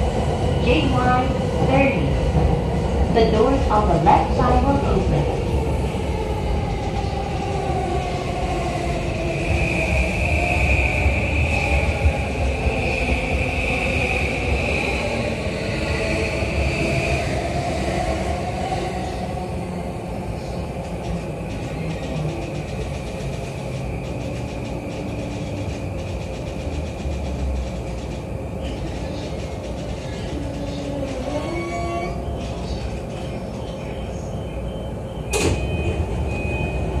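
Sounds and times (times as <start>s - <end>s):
train rolling noise: 0.0s - 37.0s
train doors opening: 6.6s - 37.0s.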